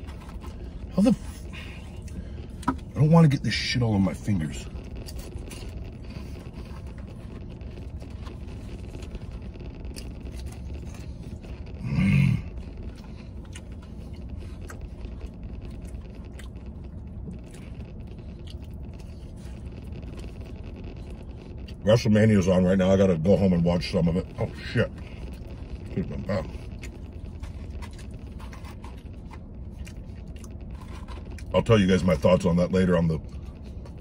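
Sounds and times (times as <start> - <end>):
man chewing fries: 0.0 - 34.0
steady low hum: 0.0 - 34.0
wet crunches and mouth sounds: 0.0 - 34.0.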